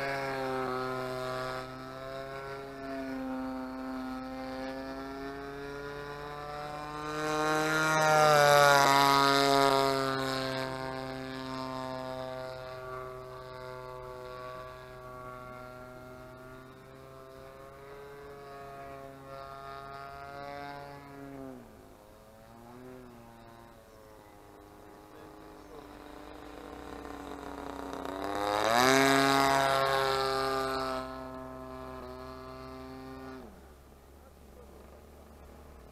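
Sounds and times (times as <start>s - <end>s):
model plane engine droning: 0.0s - 35.9s.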